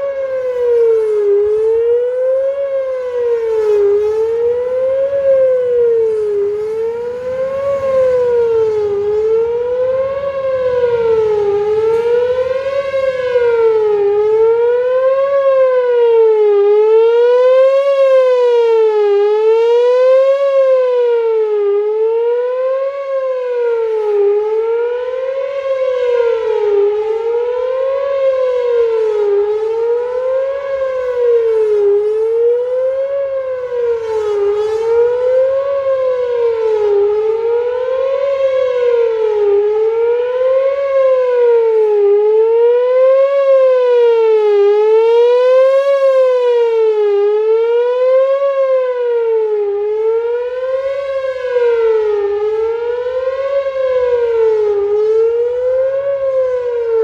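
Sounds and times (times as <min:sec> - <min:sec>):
wavering warning siren: 0:00.0 - 0:57.0.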